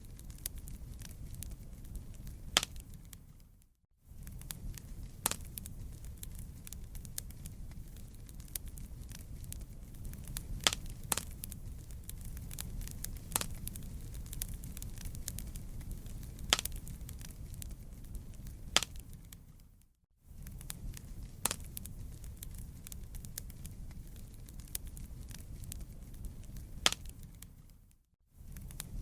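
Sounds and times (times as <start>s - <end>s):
wood crackling: 0.0s - 19.8s, 20.4s - 29.0s
campfire flames rumbling: 0.0s - 27.8s, 28.4s - 29.0s
sharp pops from burning wood: 0.1s - 3.4s, 4.2s - 19.7s, 20.4s - 27.8s, 28.5s - 29.0s.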